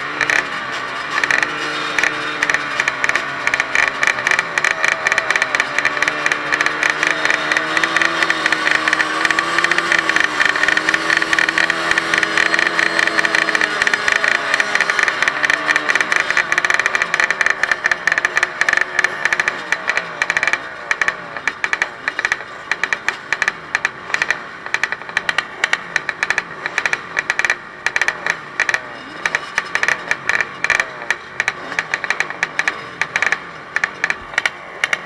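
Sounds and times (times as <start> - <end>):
crackle of bikes running: 0.0 - 35.0
dirt bike engine revving: 0.0 - 35.0.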